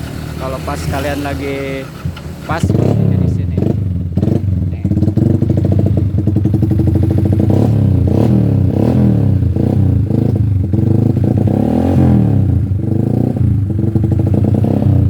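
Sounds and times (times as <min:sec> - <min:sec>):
motorcycle engine throttle blips: 0:00.0 - 0:15.0.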